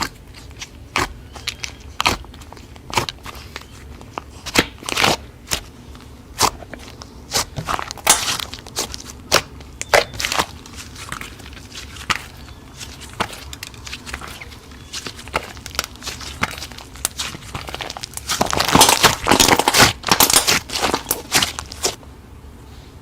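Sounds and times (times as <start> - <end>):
slime crackling and popping: 0.0 - 5.7, 6.3 - 22.0.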